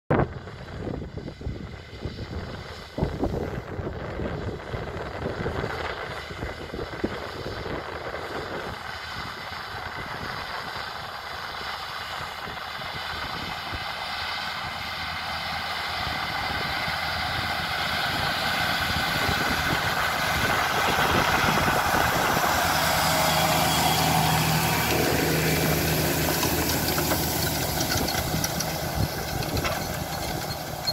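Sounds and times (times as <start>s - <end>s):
tractor diesel engine under load: 0.3s - 30.9s
cultivator working the soil: 0.4s - 30.9s.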